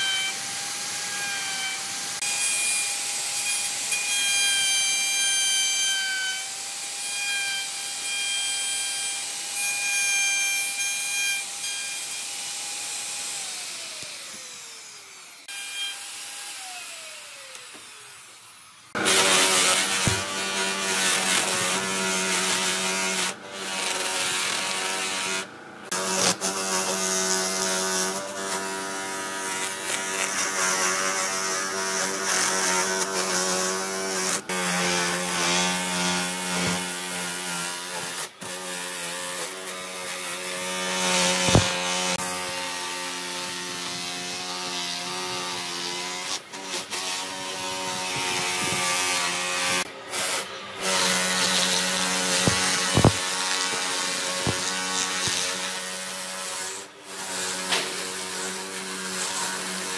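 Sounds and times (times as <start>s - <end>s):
angle grinder sanding wood: 0.0s - 59.9s.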